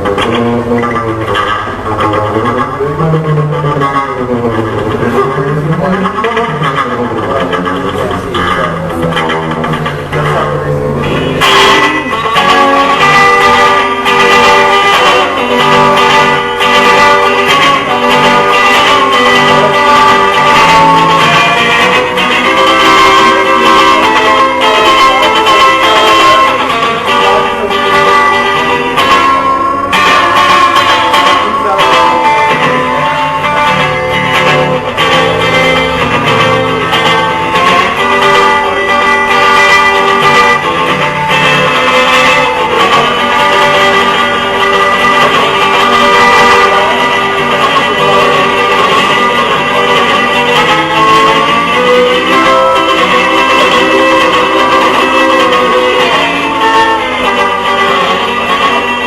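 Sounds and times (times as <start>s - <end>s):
solo guitar notes and chords: 0.0s - 59.0s.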